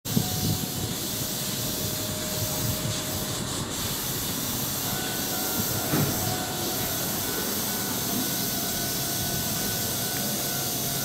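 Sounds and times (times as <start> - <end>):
train equipment hissing: 0.1 - 11.0.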